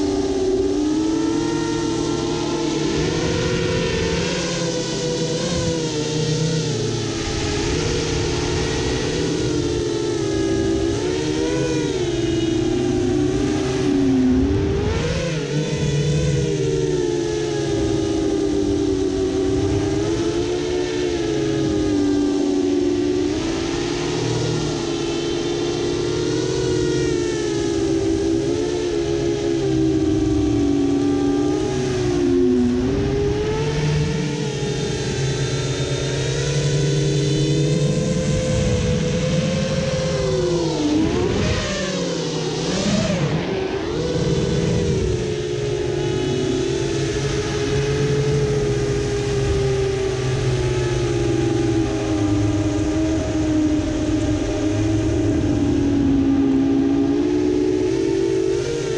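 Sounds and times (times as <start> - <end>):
quadcopter motors whining: 0.0 - 58.9.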